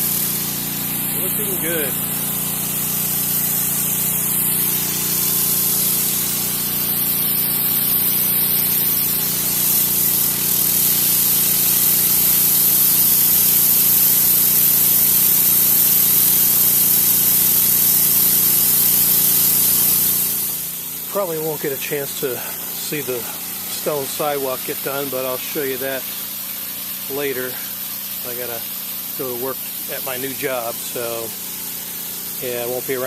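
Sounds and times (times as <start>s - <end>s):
pressure washer motor hum: 0.0s - 33.0s
pressure washer spray hissing: 0.0s - 33.0s.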